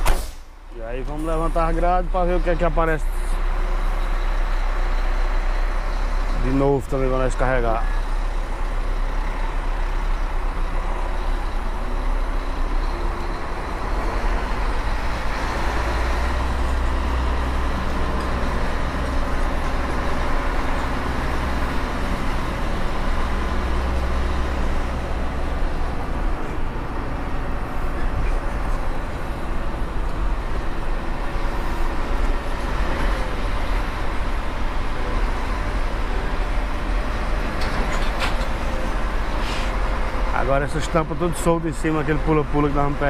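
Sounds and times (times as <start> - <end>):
road rumble: 0.0 - 43.0
truck diesel engine driving: 0.0 - 43.0.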